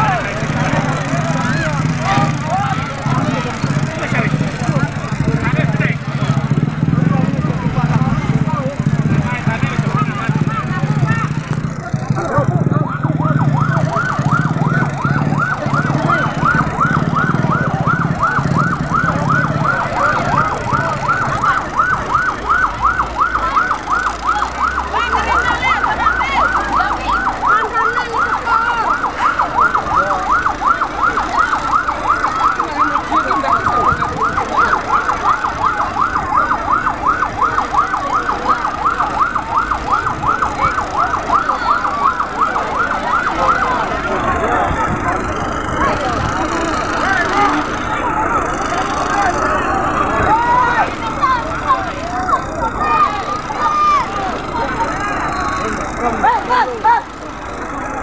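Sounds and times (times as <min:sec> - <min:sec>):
siren yelping: 0:00.0 - 0:57.7
low engine rumble: 0:00.0 - 0:58.0.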